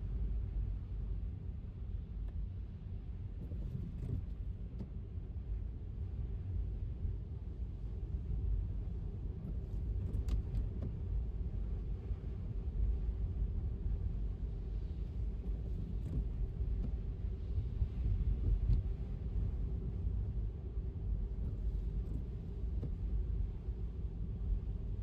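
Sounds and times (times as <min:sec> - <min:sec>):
car driving on wet pavement: 0:03.4 - 0:25.0.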